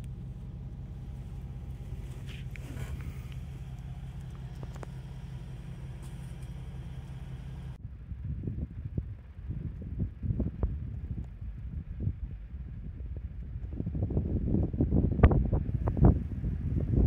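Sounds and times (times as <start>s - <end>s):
low mechanical hum: 0.0s - 17.0s
wind buffeting microphone: 0.0s - 17.0s.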